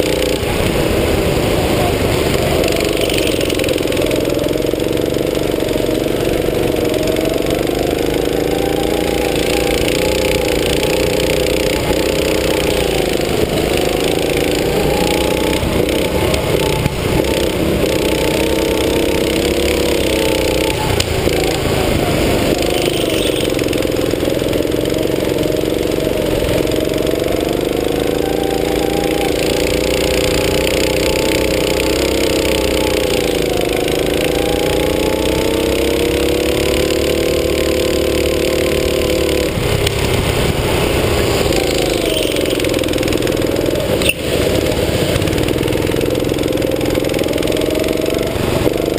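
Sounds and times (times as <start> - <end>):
go-kart engine revving: 0.0 - 48.9.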